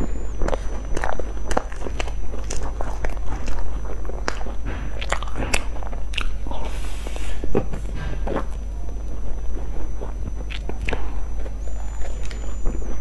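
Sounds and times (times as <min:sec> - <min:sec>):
biting and chewing pastry: 0:00.0 - 0:13.0.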